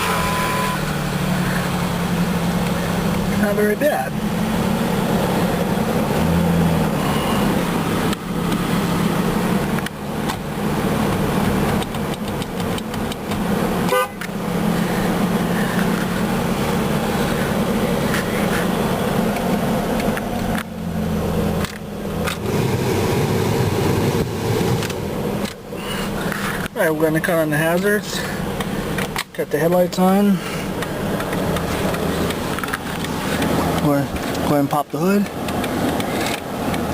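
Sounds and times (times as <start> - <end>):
car engine running: 0.0 - 36.9.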